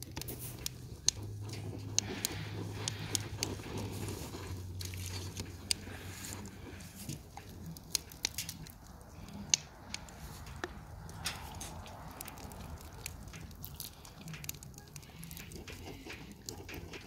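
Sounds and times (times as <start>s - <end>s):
dog crunching nuts: 0.0s - 17.0s.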